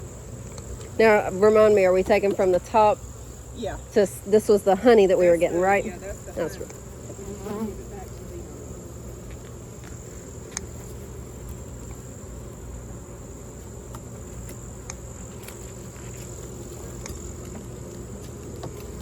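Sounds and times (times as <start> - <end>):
high-pitched insect trill: 0.0 - 19.0
honeybees buzzing: 0.0 - 19.0.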